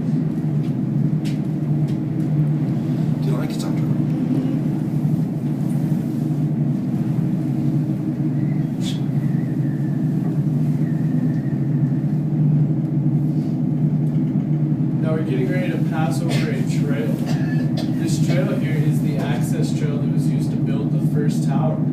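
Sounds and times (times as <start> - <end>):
cable car low rumbling drone: 0.0 - 21.9.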